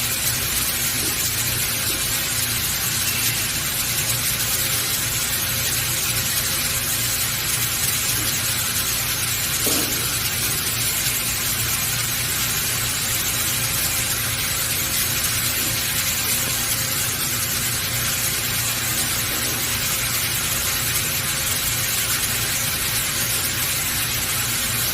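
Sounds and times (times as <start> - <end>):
faint machine hum: 0.0 - 24.9.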